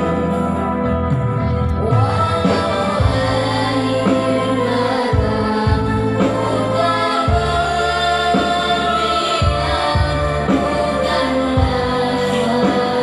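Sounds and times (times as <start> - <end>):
song with singing and instruments: 0.0 - 13.0.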